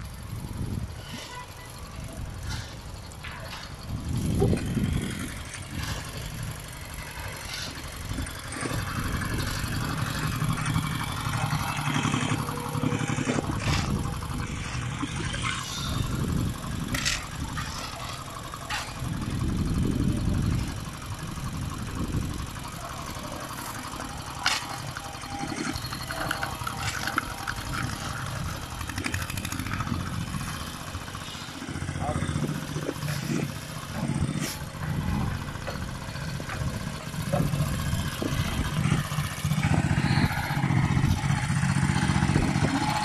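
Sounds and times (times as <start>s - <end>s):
vibratory roller engine running: 0.0s - 43.0s.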